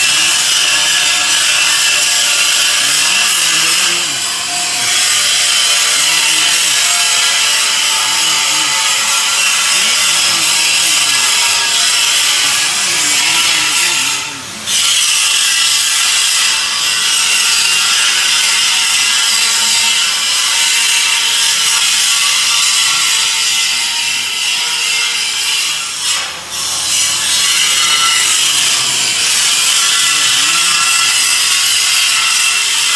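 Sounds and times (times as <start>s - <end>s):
stone-cutting machine grinding: 0.0s - 32.9s.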